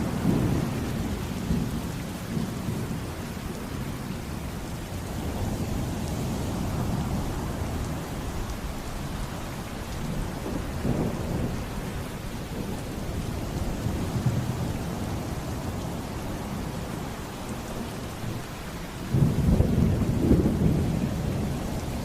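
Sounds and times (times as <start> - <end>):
low rolling thunder: 0.0 - 4.2, 5.0 - 17.2, 18.0 - 22.0
heavy rain: 0.0 - 22.0.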